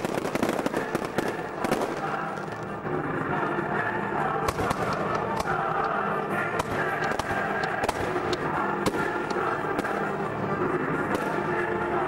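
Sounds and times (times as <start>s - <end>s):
background music: 0.0s - 12.0s
fireworks bangs and crackles: 0.0s - 12.0s.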